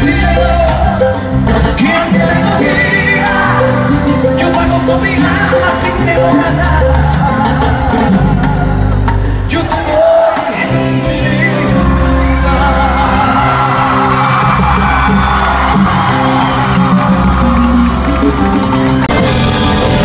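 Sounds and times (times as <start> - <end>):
lead singer singing: 0.0 - 18.9
live salsa band: 0.0 - 20.0.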